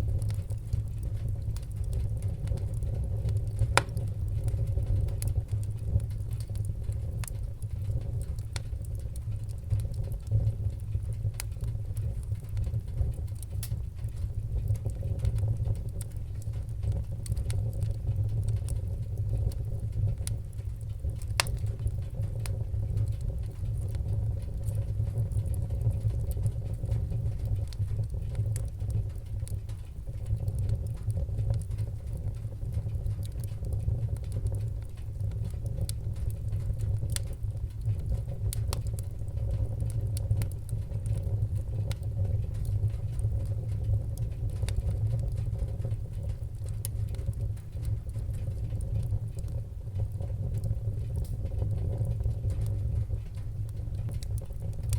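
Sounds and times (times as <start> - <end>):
fireplace fire crackling: 0.0 - 54.9.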